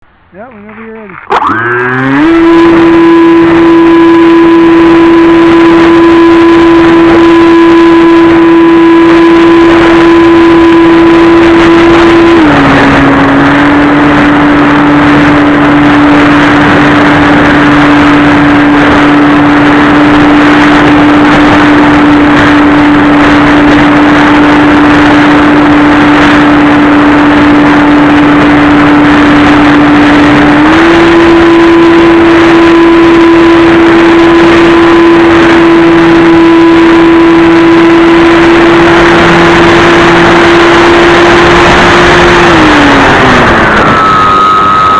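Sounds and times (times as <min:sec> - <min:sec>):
electric motor propeller whine: 0:01.3 - 0:44.9.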